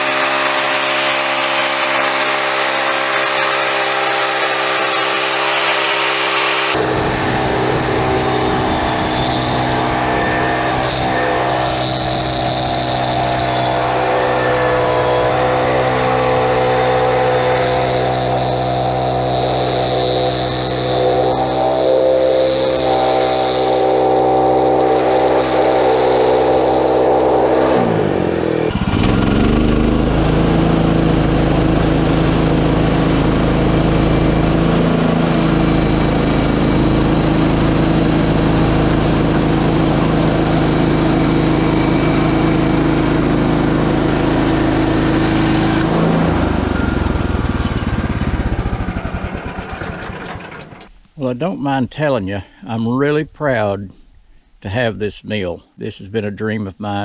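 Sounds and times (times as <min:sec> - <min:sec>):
sawmill engine running: 0:00.0 - 0:51.0.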